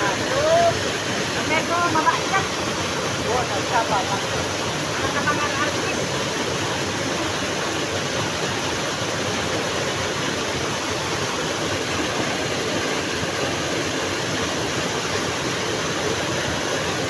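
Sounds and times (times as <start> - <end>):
river water running over rocks: 0.0 - 17.0.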